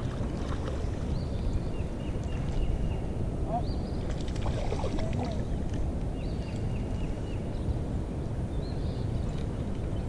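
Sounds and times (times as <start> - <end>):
low rumble of wind and water: 0.0 - 10.0.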